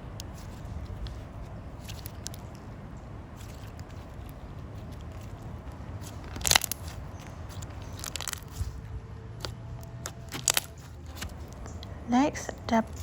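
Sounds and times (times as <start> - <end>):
slime squishing: 0.0 - 12.0.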